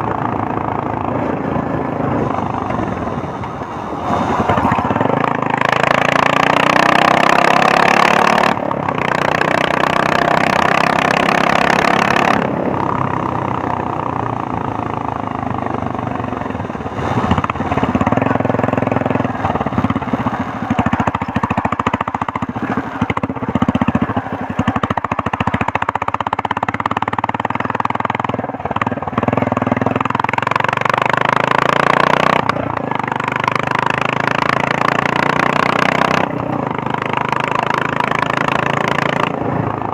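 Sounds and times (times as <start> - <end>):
single-cylinder motorcycle engine: 0.0 - 39.9.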